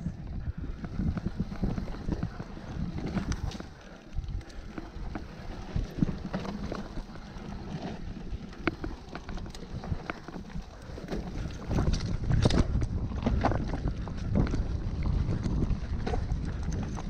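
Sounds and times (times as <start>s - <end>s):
bike tyres rumbling on dirt: 0.0s - 17.0s
wind noise on microphone: 0.0s - 17.0s
bike clicks and knocks: 0.7s - 17.0s.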